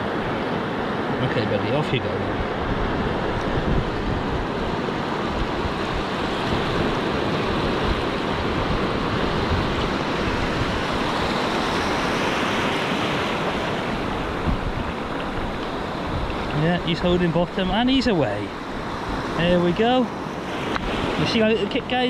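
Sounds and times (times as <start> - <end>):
surf breaking on beach: 0.0 - 22.0
wind buffeting microphone: 2.0 - 21.8.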